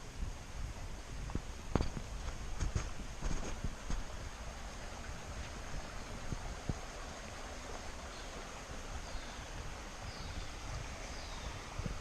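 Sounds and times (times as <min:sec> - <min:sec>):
flowing stream water: 0:00.0 - 0:12.0
wind buffeting microphone: 0:00.0 - 0:12.0.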